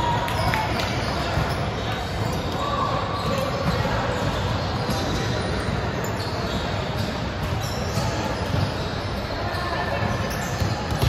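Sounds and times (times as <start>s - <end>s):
volleyballs hit and bouncing: 0.0s - 8.8s, 9.8s - 11.0s
sports hall din: 0.0s - 11.0s.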